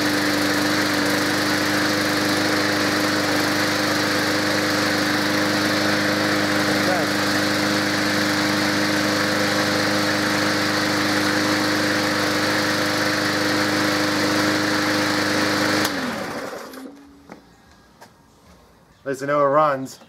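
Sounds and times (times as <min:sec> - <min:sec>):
mower engine winding down: 0:00.0 - 0:17.3
lawn mower engine running: 0:00.0 - 0:17.4.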